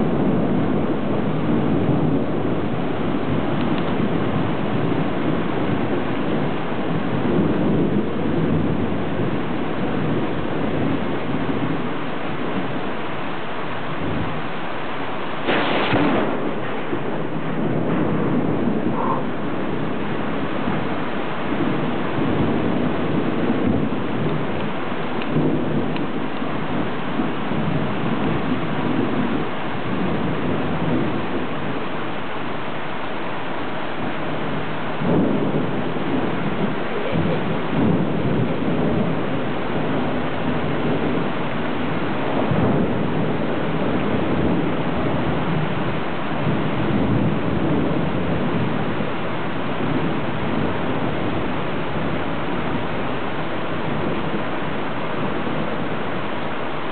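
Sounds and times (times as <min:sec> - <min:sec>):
steady rain: 0:00.0 - 0:56.9
thunder rumbling: 0:00.0 - 0:56.9.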